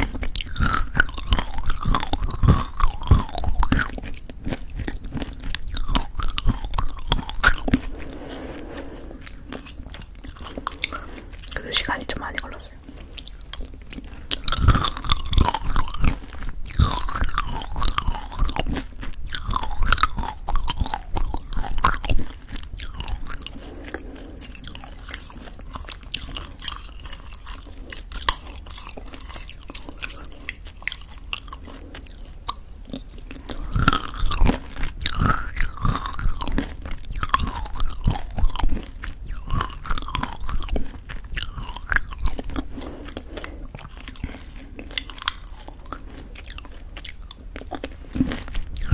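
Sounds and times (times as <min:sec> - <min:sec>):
crunchy chewing with mouth sounds: 0:00.0 - 0:48.9.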